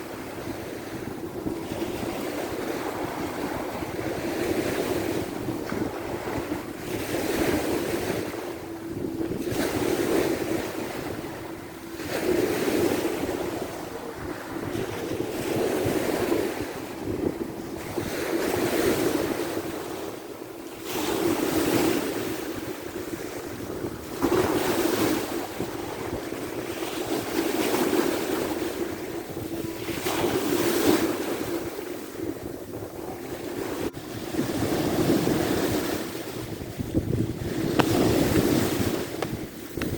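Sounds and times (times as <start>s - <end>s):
sea waves washing onto shore: 0.0s - 39.9s
wind buffeting microphone: 0.0s - 39.9s.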